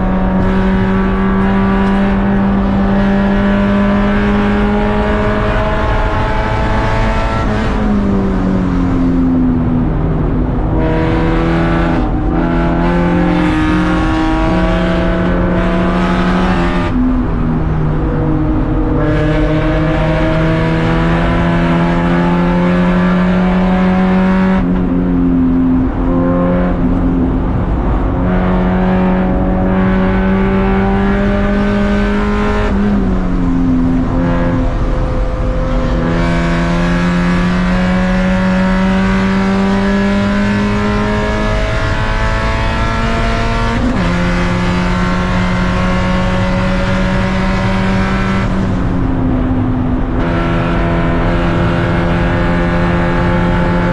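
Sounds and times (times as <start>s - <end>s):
race car engine under load: 0.0s - 53.9s.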